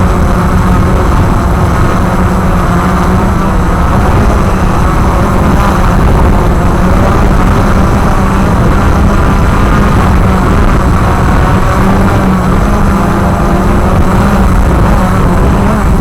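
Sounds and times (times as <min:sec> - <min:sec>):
quadcopter motors and propellers: 0:00.0 - 0:16.0.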